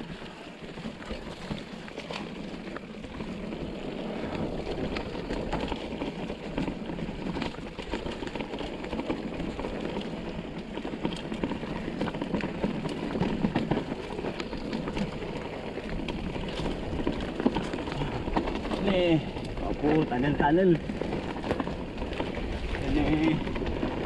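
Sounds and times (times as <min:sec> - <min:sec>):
bike chain and frame rattling: 0:00.0 - 0:24.0
bike tyres rushing on dirt: 0:00.0 - 0:24.0.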